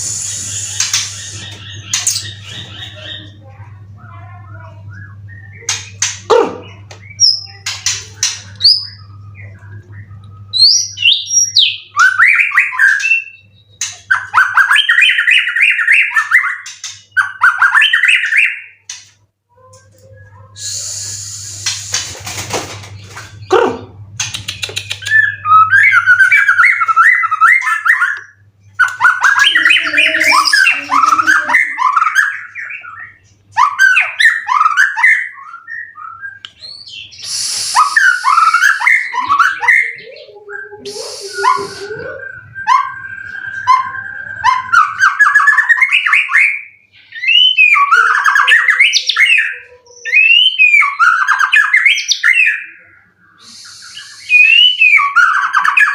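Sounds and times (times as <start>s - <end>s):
bird singing trills and whistles: 0.0s - 22.0s, 24.2s - 55.9s.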